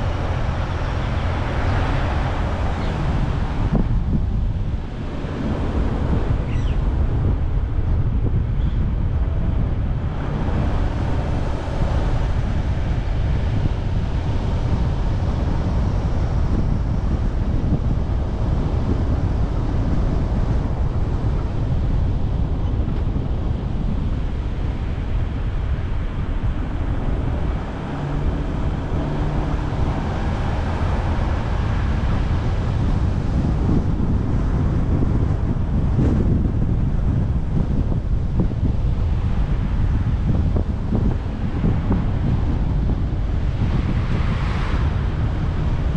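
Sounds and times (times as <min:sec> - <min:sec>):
car road noise: 0:00.0 - 0:45.9
wind buffeting microphone: 0:00.0 - 0:45.9.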